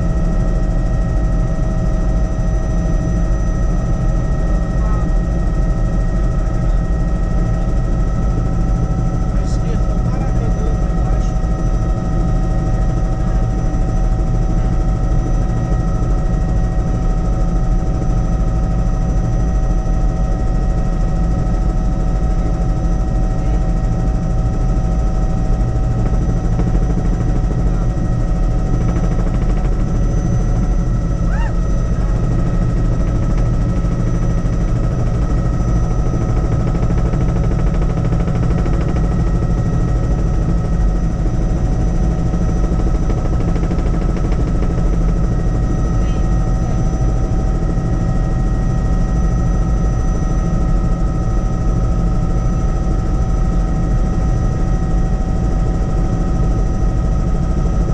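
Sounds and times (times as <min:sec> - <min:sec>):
helicopter rotor chop: 0:00.0 - 0:57.9.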